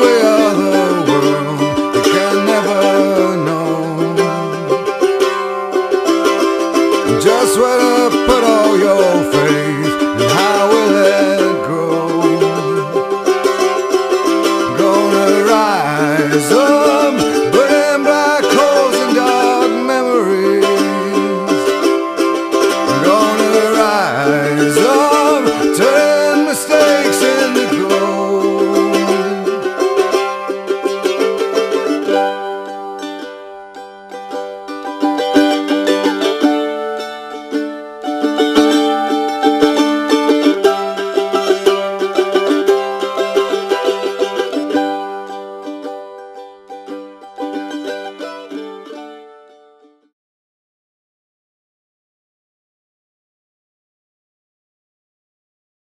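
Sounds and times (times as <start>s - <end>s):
country tune on plucked strings: 0.0s - 50.1s.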